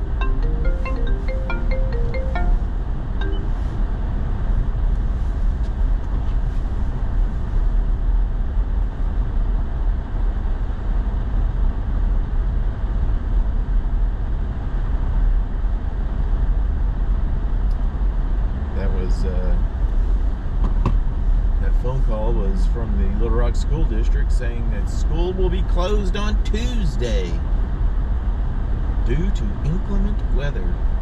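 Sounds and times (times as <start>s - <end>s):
truck engine and tyre rumble: 0.0s - 31.0s.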